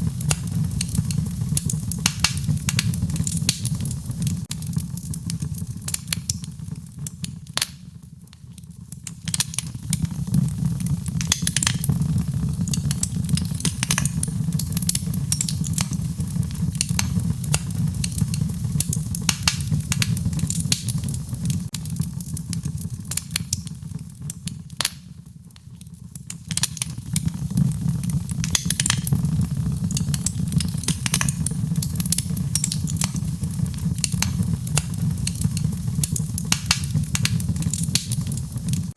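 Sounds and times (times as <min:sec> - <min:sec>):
fire crackling with sharp pops: 0:00.0 - 0:38.9
low fire rumble: 0:00.0 - 0:38.9.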